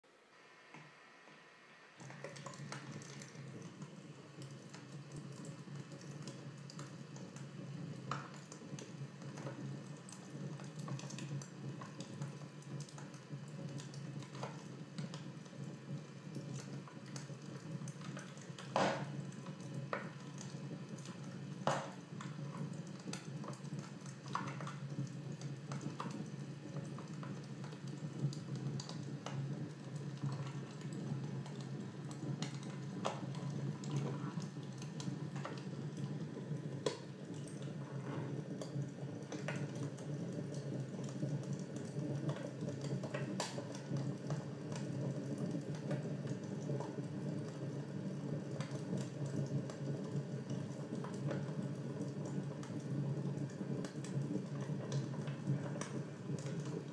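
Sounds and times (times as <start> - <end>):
fire crackling and popping: 2.0 - 56.9.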